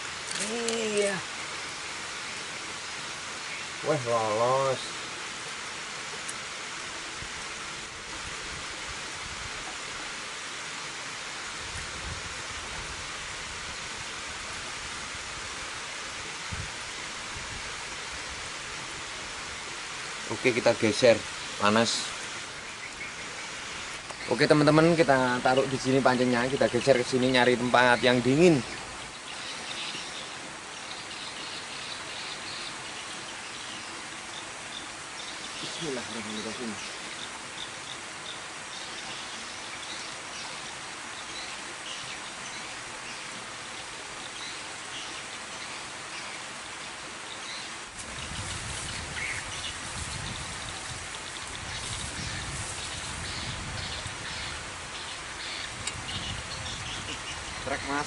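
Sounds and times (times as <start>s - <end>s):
water rushing at a dam: 0.0s - 58.0s.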